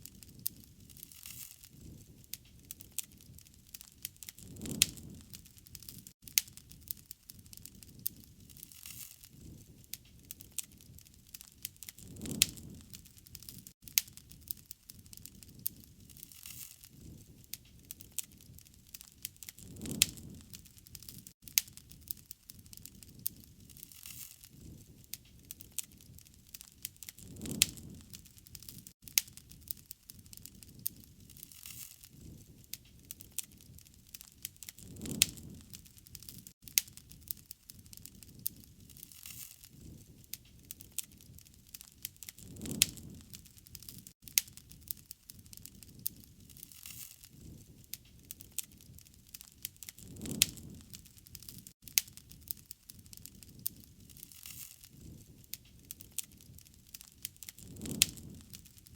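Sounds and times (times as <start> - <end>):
campfire crackling and popping: 0.0 - 58.9
low rush of flames: 0.0 - 58.9.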